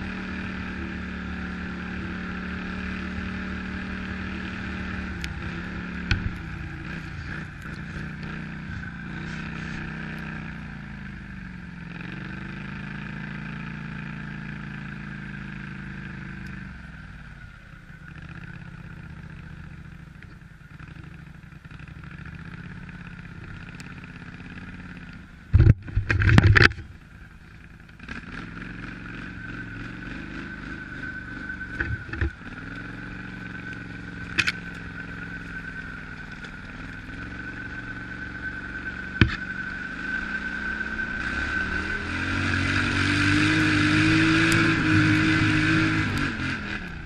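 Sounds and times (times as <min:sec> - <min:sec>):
atv engine whining: 0:00.0 - 0:47.0.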